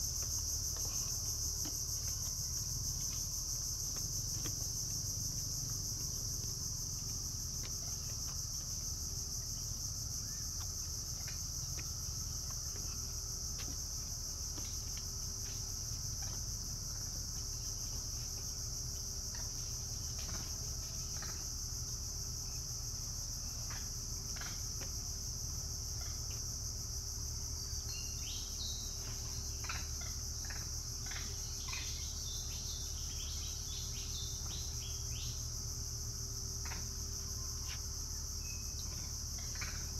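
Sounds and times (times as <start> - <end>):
insect chorus buzzing: 0.0 - 39.9.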